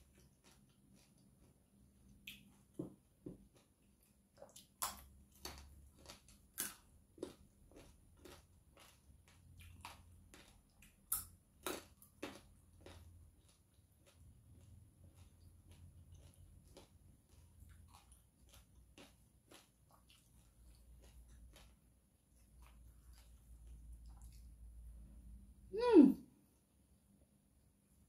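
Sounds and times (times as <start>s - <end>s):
person chewing food: 0.0s - 25.4s.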